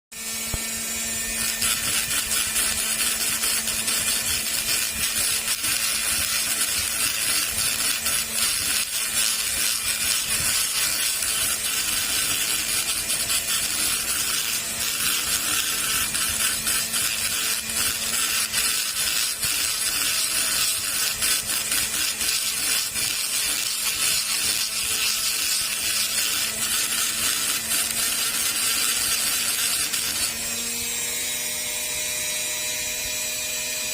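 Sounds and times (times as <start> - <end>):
rotary grinder grinding metal: 0.1 - 33.9.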